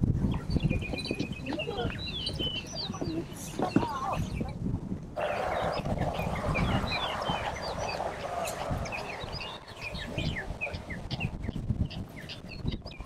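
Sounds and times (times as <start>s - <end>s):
songbirds chirping: 0.1s - 13.0s.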